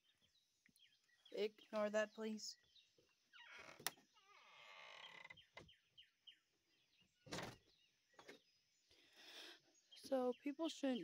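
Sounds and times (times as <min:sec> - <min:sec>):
faint songbirds chirping: 0:00.0 - 0:11.0.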